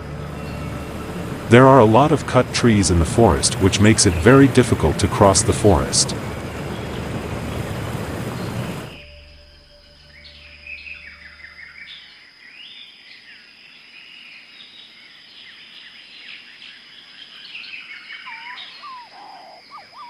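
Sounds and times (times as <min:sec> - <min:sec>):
forest birds chirping: 0:00.0 - 0:20.0.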